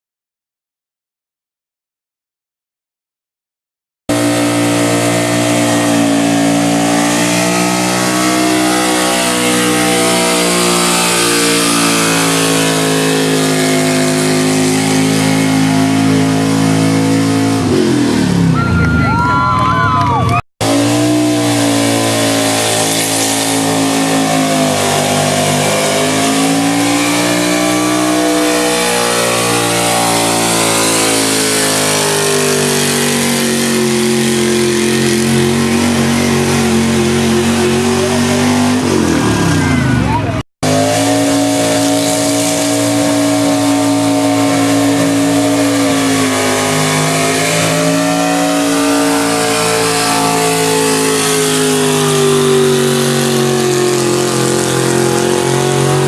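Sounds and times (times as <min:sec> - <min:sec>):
truck engine revving hard: 0:04.1 - 0:56.0.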